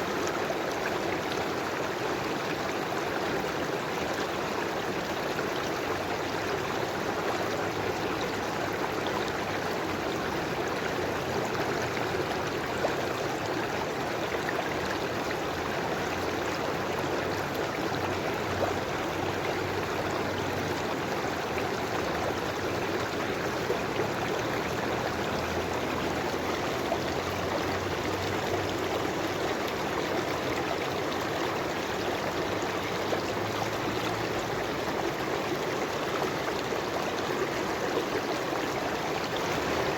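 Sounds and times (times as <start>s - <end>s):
river rushing: 0.0s - 39.9s
water splashes and trickles: 0.0s - 39.9s.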